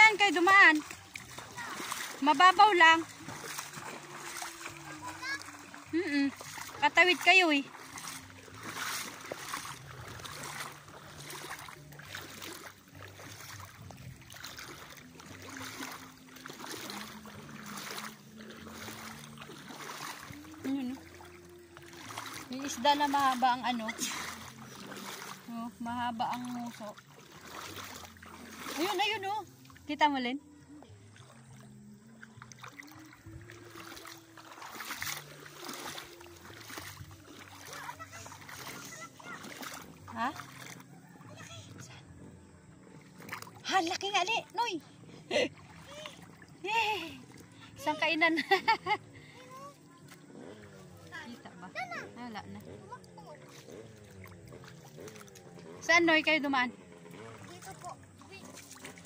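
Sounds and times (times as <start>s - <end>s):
river flowing: 0.0s - 59.0s
water splashing around wading legs: 0.0s - 59.0s.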